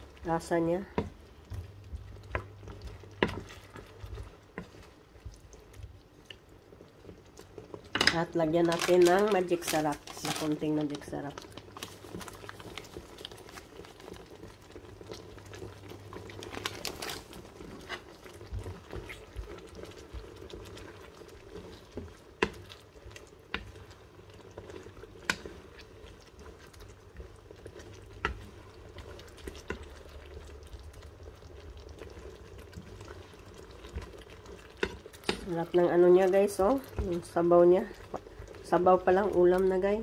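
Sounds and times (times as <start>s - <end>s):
stew bubbling in a frying pan: 0.0s - 40.0s
wooden spatula stirring: 0.0s - 40.0s.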